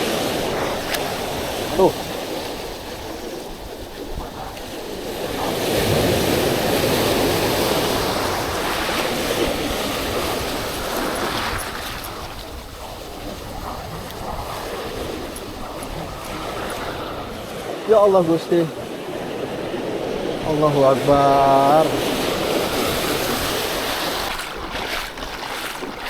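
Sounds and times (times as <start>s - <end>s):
sea waves breaking on shore: 0.0s - 26.0s
wind buffeting microphone: 0.0s - 26.0s.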